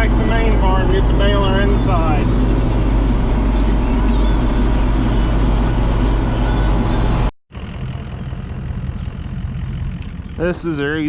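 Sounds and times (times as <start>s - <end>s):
quiet steady engine hum: 0.0s - 11.0s
tractor engine rumbling: 0.0s - 11.0s.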